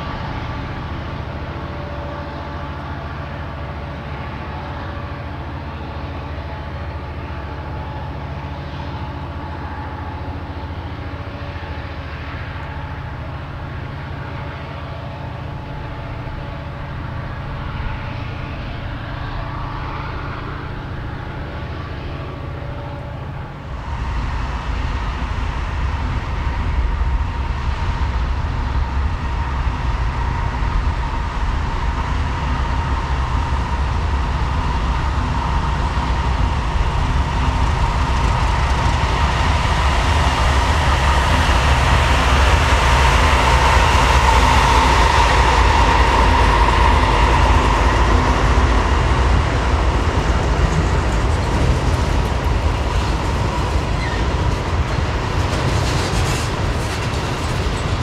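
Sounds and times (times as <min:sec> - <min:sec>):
diesel locomotive engine droning: 0:00.0 - 0:58.0
train rumble: 0:00.0 - 0:58.0.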